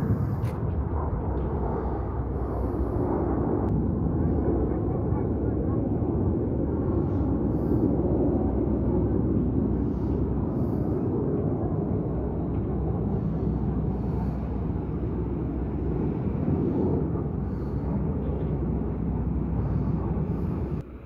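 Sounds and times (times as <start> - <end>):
distant jet engines rumbling: 0.0 - 21.0.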